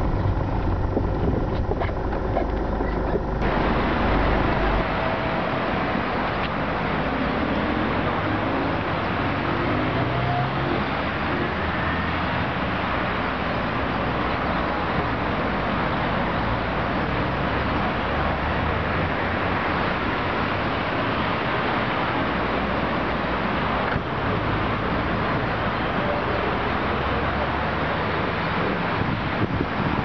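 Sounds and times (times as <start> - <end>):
road traffic hum: 0.0 - 30.0
vehicle engine revving: 0.0 - 30.0.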